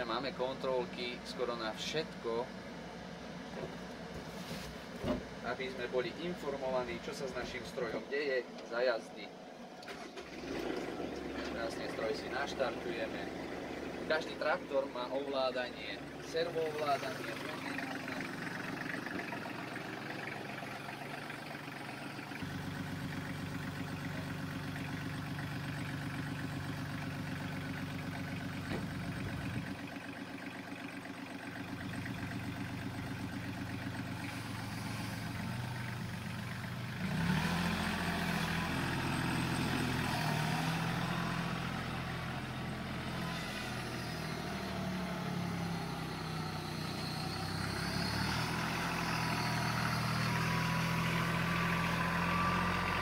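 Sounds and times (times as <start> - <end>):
tractor diesel engine: 0.0 - 53.0.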